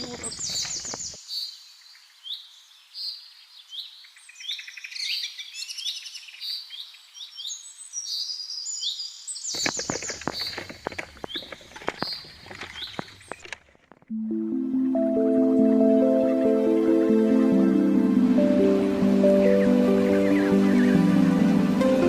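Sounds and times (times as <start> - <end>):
birds chirping: 0.0 - 13.5, 14.1 - 22.0.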